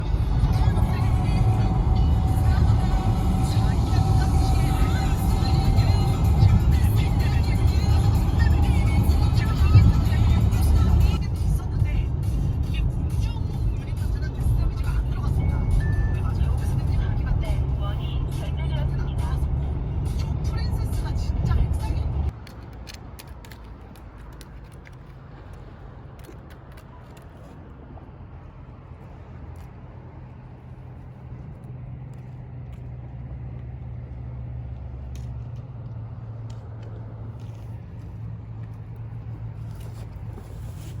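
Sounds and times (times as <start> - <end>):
car engine and road drone: 0.0 - 41.0.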